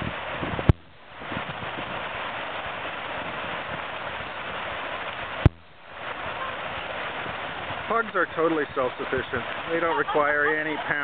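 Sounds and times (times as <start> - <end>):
creek rushing past rocks: 0.0 - 11.0.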